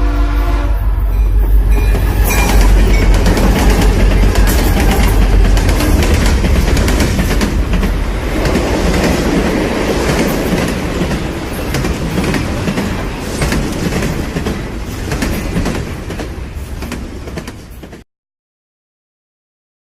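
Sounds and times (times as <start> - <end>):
heavy rolling rumble: 0.7 - 17.3.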